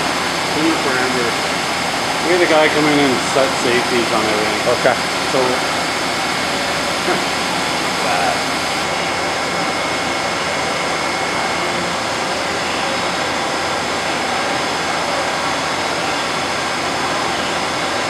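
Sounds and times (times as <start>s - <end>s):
lathe machine hum and whine: 0.0s - 18.0s.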